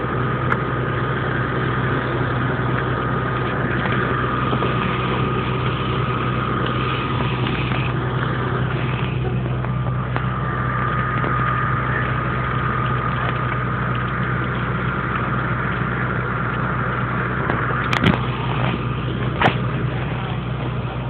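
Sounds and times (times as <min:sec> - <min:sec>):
fire engine running: 0:00.0 - 0:21.0
high whine: 0:00.0 - 0:21.0.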